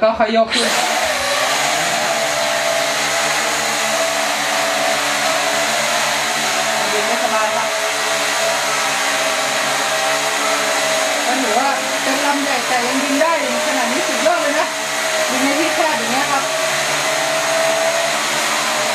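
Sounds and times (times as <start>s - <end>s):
quadcopter propellers whirring: 0.5s - 18.9s.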